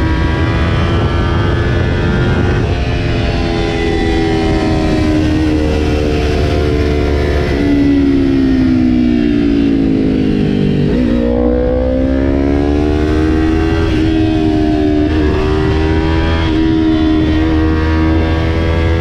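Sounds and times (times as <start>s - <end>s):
motorcycle engine accelerating: 0.0s - 19.0s
wind rumble on microphone: 0.0s - 19.0s.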